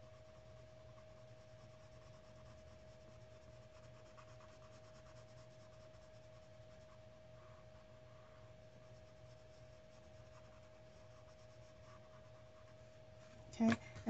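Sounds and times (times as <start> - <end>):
colored pencil scratching on paper: 0.0 - 13.8
faint steady hum: 0.0 - 14.0.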